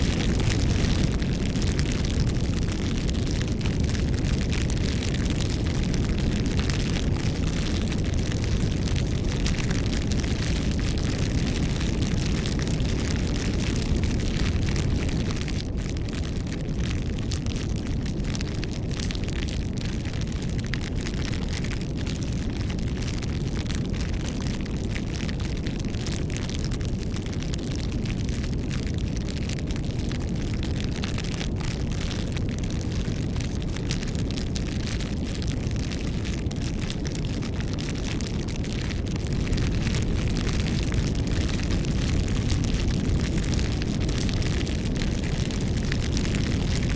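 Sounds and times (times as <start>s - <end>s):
burning wood crackling and popping: 0.0s - 46.9s
low rumble of flame: 0.0s - 46.9s.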